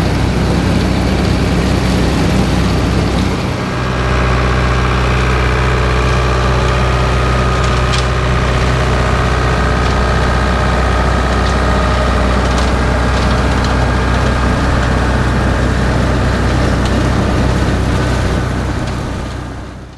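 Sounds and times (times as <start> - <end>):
forage harvester chopping grass: 0.0 - 19.9
tractor engine running under load: 0.0 - 19.9.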